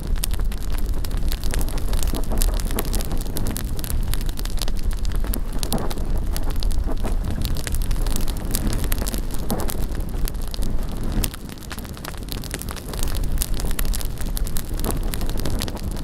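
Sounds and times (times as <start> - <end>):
bonfire crackling and popping: 0.0 - 16.0
wind on microphone: 0.0 - 16.0.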